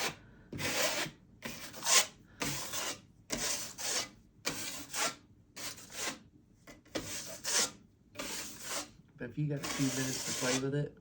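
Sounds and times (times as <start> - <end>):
drywall knife scraping wall: 0.0 - 6.3, 6.9 - 10.7.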